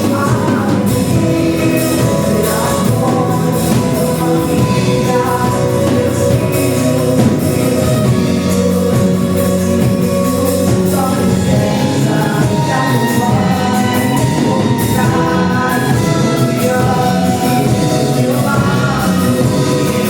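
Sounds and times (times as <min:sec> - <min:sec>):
band playing: 0:00.0 - 0:20.0
drums and percussion: 0:00.0 - 0:20.0
gospel singing: 0:00.0 - 0:20.0.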